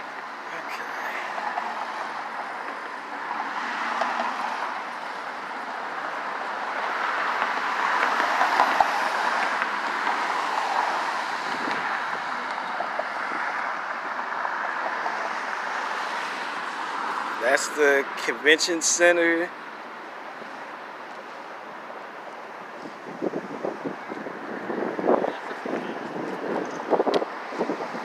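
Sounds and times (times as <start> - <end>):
outdoor noise: 0.0 - 28.0.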